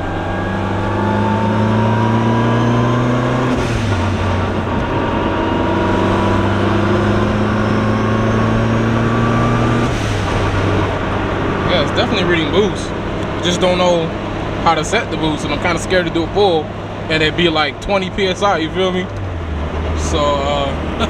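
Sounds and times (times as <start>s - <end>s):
car engine revving through gears: 0.0s - 21.0s.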